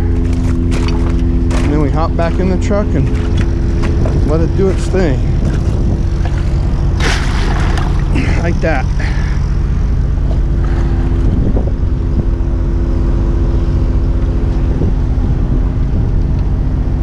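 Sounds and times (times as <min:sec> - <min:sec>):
truck engine and vacuum pump droning: 0:00.0 - 0:17.0.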